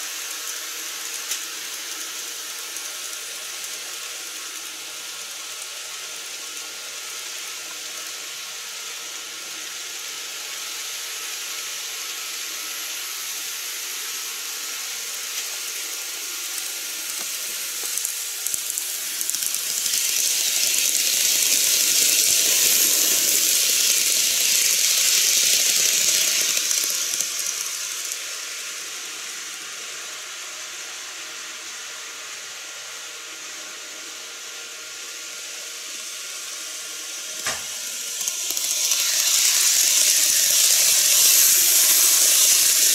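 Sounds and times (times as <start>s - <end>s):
model train running past: 0.0s - 42.9s.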